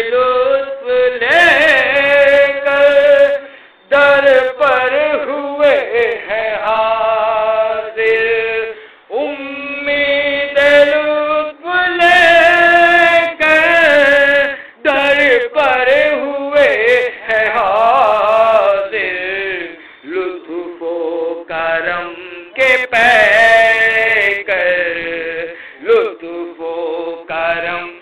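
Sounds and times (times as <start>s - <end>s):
man singing devotional song: 0.0s - 28.0s.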